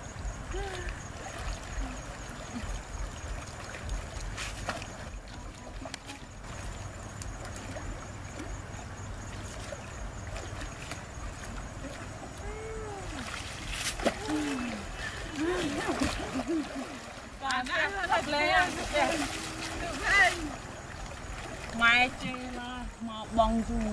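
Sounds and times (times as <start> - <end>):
water trickling and flowing: 0.0 - 23.9.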